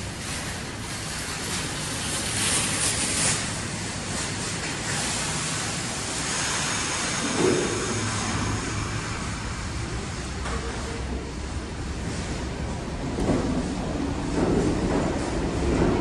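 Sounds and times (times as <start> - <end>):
subway train equipment hum: 0.0 - 16.0.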